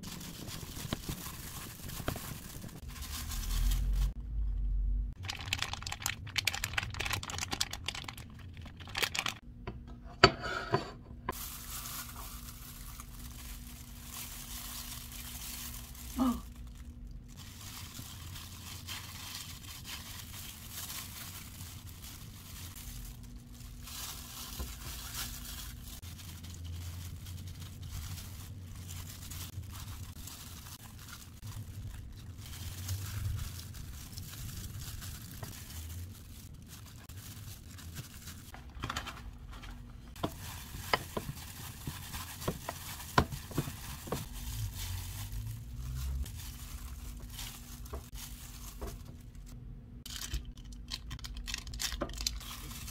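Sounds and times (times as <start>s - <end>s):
plastic gloves crinkling: 0.0s - 9.5s, 11.3s - 52.9s.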